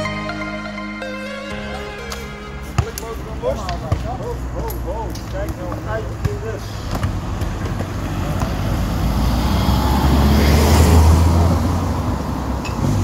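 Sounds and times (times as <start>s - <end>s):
car passing: 2.5s - 13.0s.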